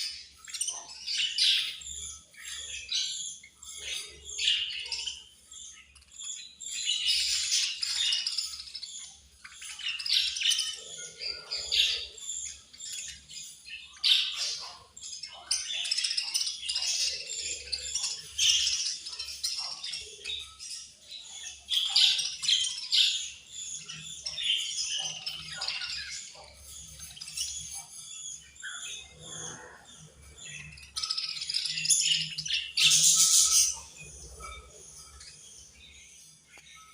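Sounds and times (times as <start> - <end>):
budgerigars chattering: 0.0 - 36.8.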